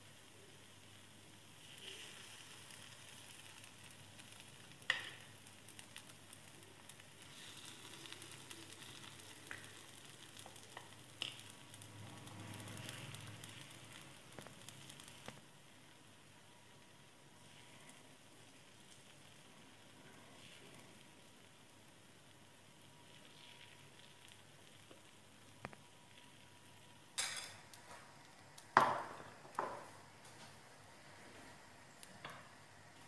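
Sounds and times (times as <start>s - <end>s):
batter sizzling in hot oil: 0.0s - 33.0s.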